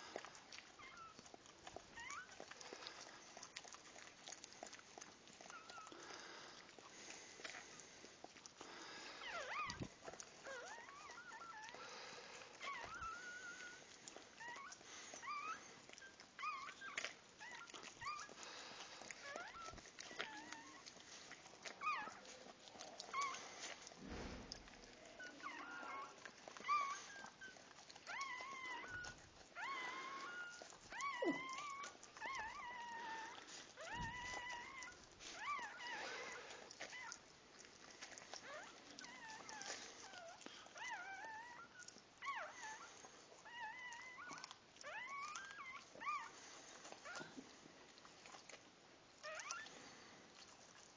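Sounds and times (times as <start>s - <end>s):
puppy squeaking and crying: 0.2s - 6.3s, 9.2s - 37.3s, 38.0s - 47.5s, 48.2s - 49.8s.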